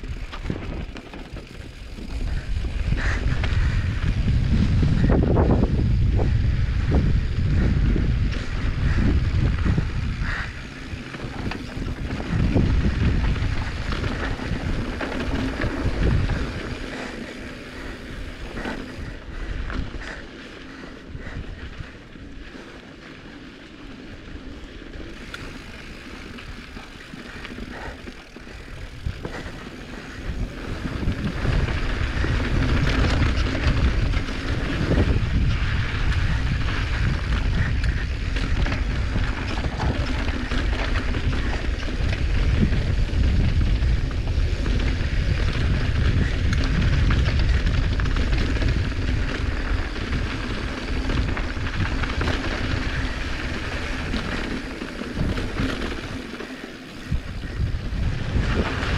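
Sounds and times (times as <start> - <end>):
wind rushing over microphone: 0.0 - 22.7, 24.2 - 58.9
rough rolling noise: 0.0 - 24.0, 24.6 - 58.9.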